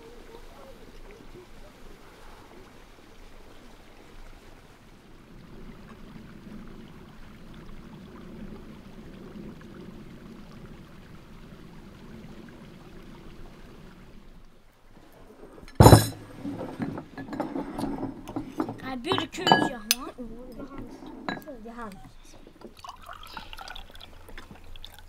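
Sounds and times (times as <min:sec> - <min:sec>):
faint rushing outdoor ambience: 0:00.0 - 0:25.0.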